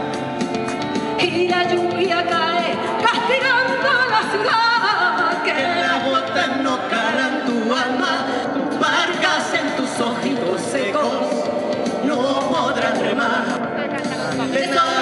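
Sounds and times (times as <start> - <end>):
musical accompaniment: 0.0 - 15.0
woman and man singing: 1.2 - 15.0.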